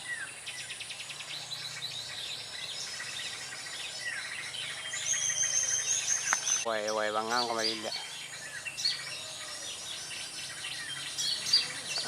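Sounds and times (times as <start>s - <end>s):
small birds chirping and trilling: 0.0s - 12.0s.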